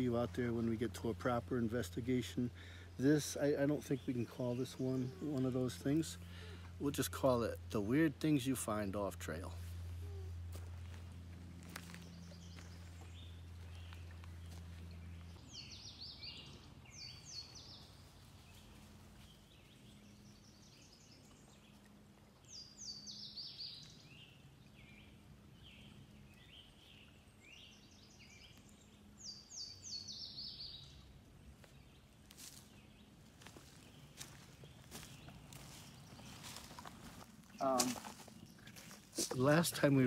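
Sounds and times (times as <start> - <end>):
low steady hum: 0.0 - 40.0
songbird chirping: 0.0 - 40.0.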